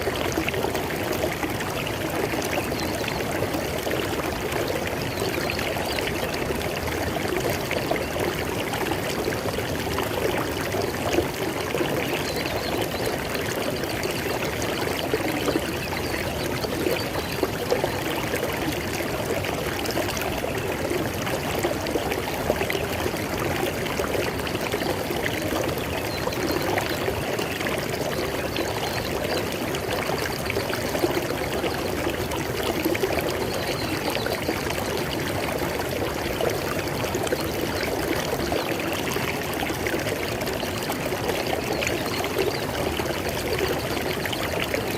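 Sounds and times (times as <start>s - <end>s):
river water flowing over rocks: 0.0s - 44.9s.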